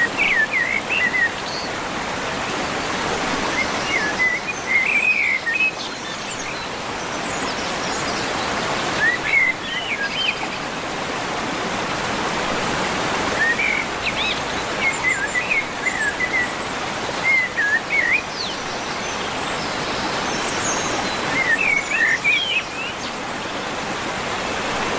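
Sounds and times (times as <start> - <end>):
rush of falling water: 0.0 - 24.9.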